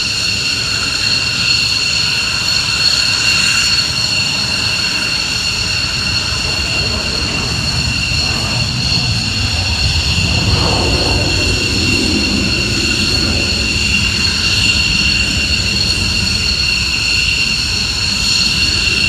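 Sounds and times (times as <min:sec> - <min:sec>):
jet engines high-pitched whine: 0:00.0 - 0:19.0.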